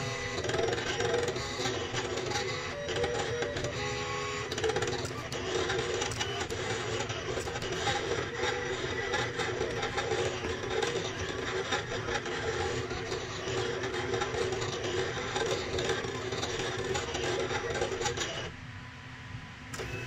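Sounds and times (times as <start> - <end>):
cutting machine running: 0.0 - 18.5.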